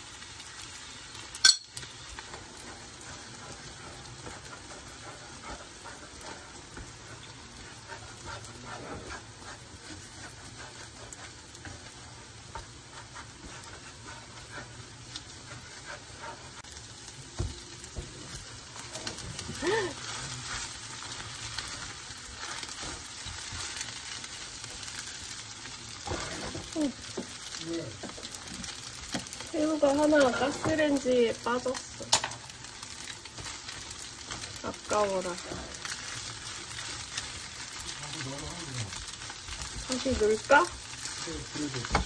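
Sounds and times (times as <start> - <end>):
food sizzling in frying pan: 0.0 - 42.0
spatula scraping pan: 0.6 - 42.0.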